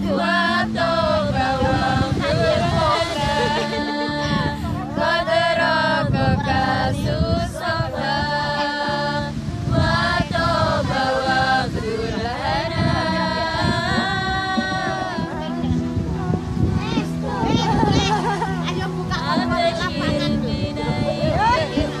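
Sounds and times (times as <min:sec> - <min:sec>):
women singing devotional songs: 0:00.0 - 0:22.0.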